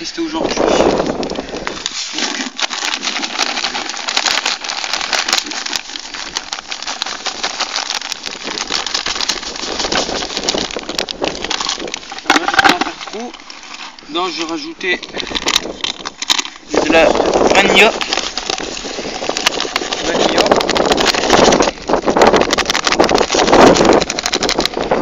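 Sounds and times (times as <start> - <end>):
crumbs pouring into plastic bowl: 1.0 - 13.9, 15.1 - 25.0.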